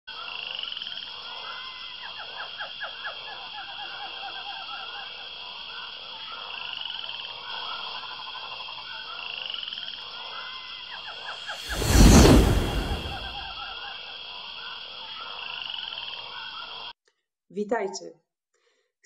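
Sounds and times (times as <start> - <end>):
frog calls: 0.1 - 11.7, 13.0 - 16.9
high insect drone: 0.1 - 16.9.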